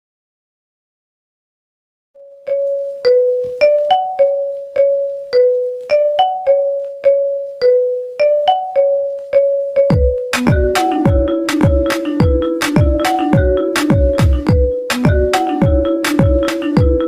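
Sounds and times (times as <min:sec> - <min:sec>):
bell-like ringtone melody: 0:02.2 - 0:17.0.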